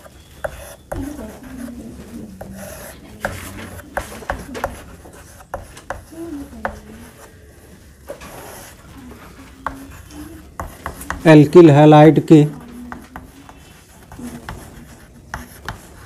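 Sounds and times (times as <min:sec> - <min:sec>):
chalk scratching on chalkboard: 0:00.0 - 0:11.6, 0:12.5 - 0:16.0.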